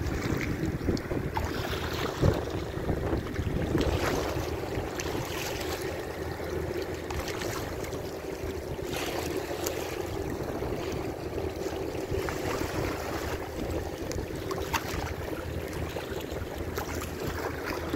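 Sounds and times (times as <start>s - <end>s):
water lapping and splashing: 0.0s - 17.9s
wind on microphone: 0.0s - 17.9s.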